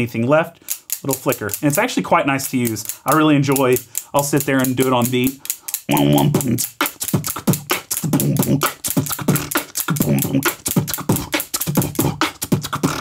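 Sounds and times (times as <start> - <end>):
man beatboxing: 0.5 - 13.0
rhythmic grinder flicker clicking: 0.5 - 13.0.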